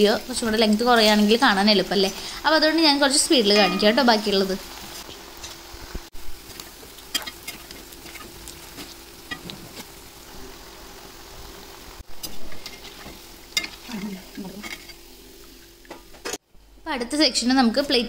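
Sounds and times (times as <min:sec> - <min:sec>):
fritters sizzling in hot oil: 0:00.0 - 0:16.2.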